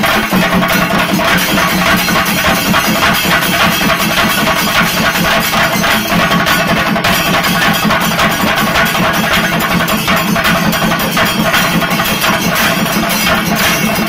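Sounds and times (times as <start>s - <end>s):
drums beaten with sticks: 0.0s - 14.0s.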